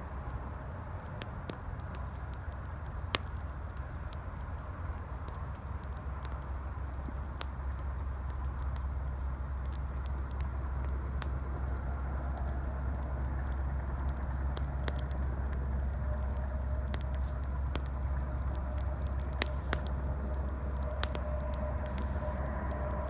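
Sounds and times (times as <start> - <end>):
campfire crackling and popping: 0.0 - 23.0
highway traffic rumble: 0.0 - 23.0.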